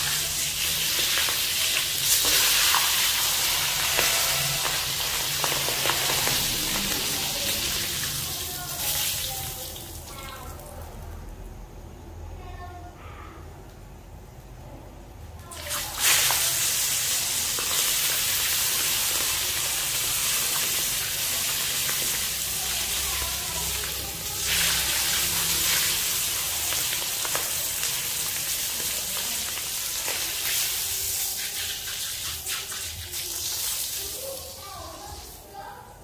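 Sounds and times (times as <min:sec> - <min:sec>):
frog sizzling in hot oil: 0:00.0 - 0:11.2, 0:15.5 - 0:35.4.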